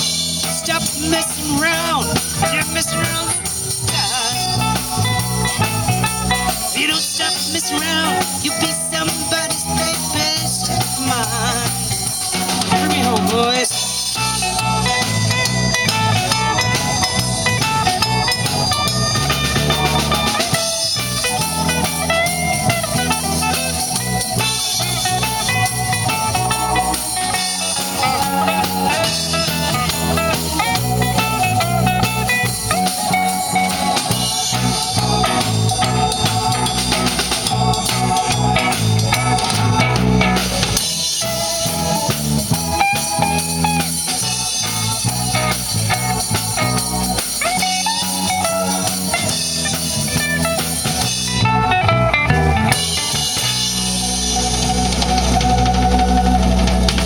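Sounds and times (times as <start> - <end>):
bass guitar: 0.0 - 57.0
drum kit: 0.0 - 57.0
lead guitar with bending notes: 0.0 - 57.0.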